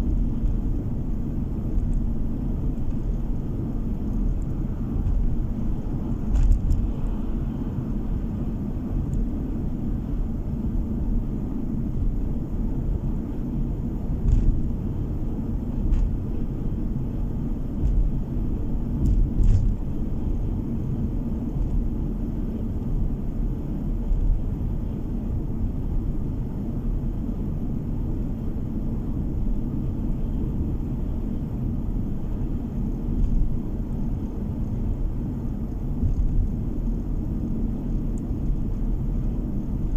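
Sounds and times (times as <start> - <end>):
low rumble of tyres and engine: 0.0 - 39.9.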